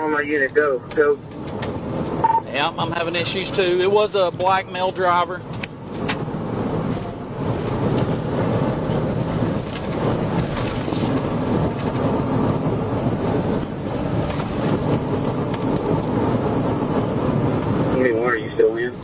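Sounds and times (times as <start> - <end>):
car engine drone: 0.0 - 19.0
road noise: 0.0 - 19.0
loud wind noise: 0.9 - 19.0.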